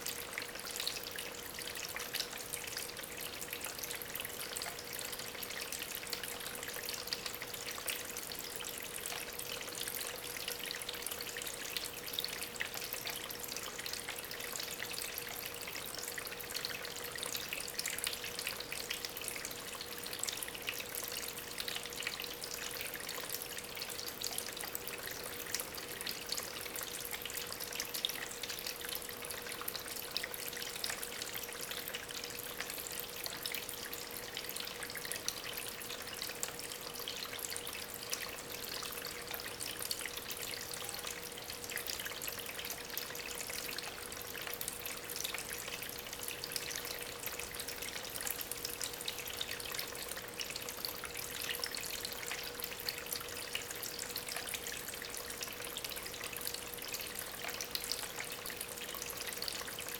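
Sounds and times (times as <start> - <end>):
faint steady hum: 0.0 - 59.9
water trickling over stones: 0.0 - 59.9.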